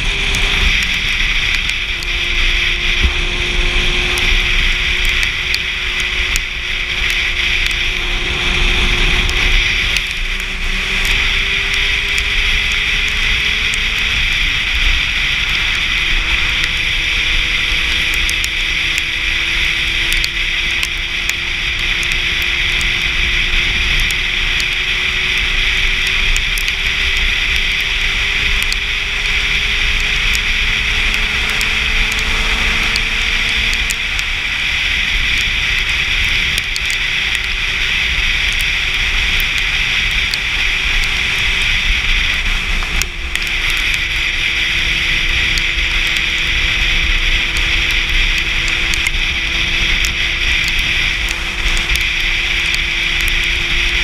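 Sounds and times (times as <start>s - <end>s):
motorcycle engine drone: 0.0s - 54.0s.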